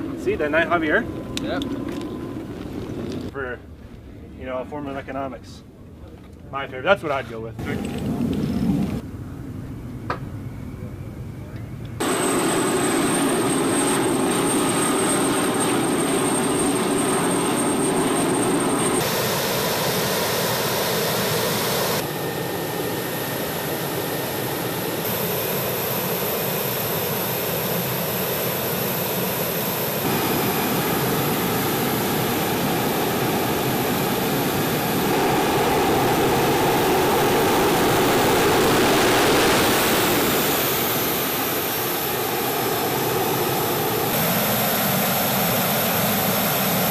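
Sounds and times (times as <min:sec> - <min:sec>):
jet engines whining: 0:00.0 - 0:03.4, 0:07.6 - 0:46.9.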